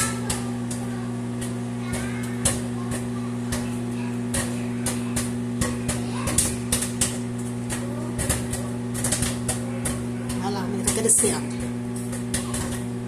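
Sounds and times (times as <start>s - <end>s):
microwave oven hum: 0.0s - 13.0s
popcorn popping: 0.0s - 13.0s.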